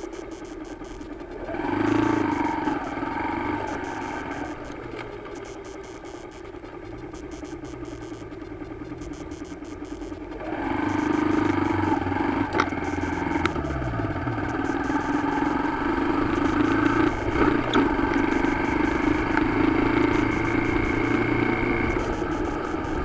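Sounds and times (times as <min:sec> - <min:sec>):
motorcycle engine revving: 0:00.0 - 0:23.0
sharp clicks: 0:00.0 - 0:23.0.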